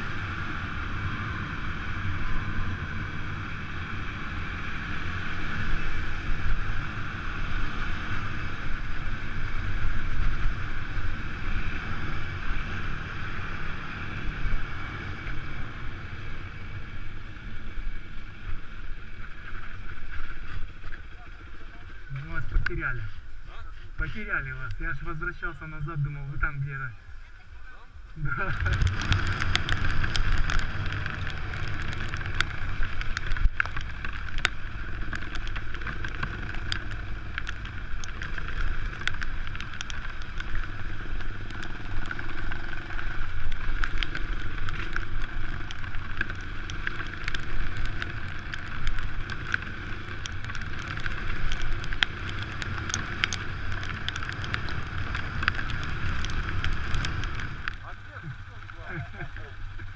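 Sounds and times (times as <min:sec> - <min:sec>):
motorcycle engine running: 0:00.0 - 0:26.7, 0:28.2 - 0:59.9.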